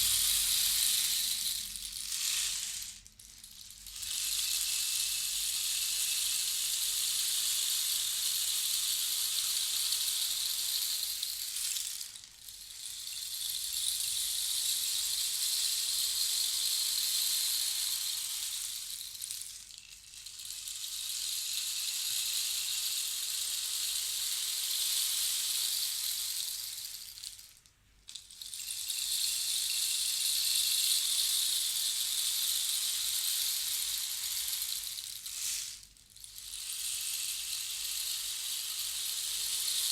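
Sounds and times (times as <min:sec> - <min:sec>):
beads rattling in shaker: 0:00.0 - 0:39.9.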